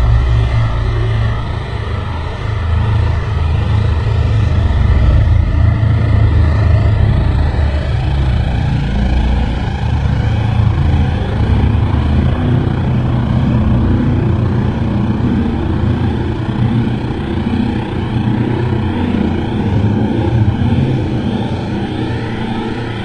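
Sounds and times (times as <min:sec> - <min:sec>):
faint droning hum: 0:00.0 - 0:23.0
low rumble: 0:00.0 - 0:23.0.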